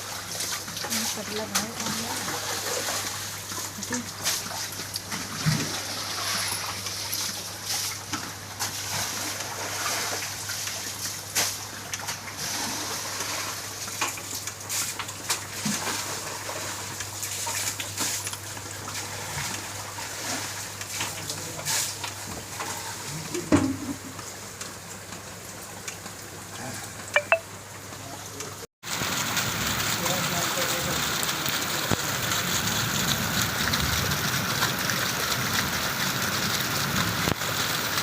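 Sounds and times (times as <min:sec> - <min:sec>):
floodwater splashing and sloshing: 0:00.0 - 0:38.0.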